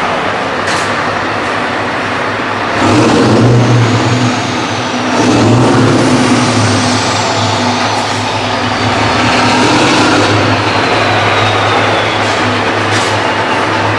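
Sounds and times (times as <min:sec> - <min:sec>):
diesel trucks driving past: 0:00.0 - 0:13.9.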